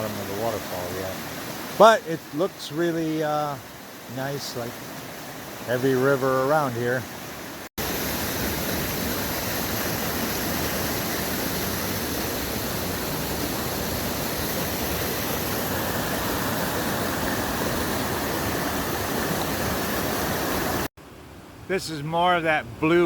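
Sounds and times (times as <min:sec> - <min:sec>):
fast-flowing water roaring: 0:00.0 - 0:20.9.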